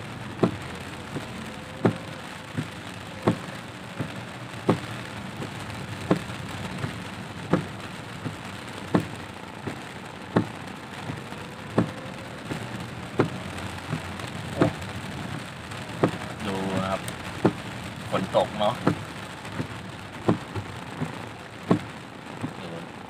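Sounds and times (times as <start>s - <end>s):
heavy rain on a car: 0.0s - 23.0s
windscreen wipers knocking: 0.0s - 23.0s.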